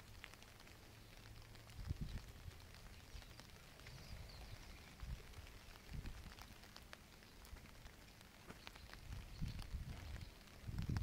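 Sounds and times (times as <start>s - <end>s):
water dripping: 0.0s - 11.0s.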